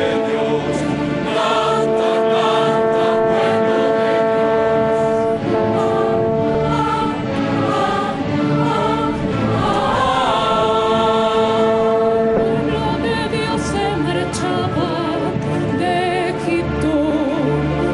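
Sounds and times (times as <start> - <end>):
choir singing with orchestra: 0.0 - 17.9.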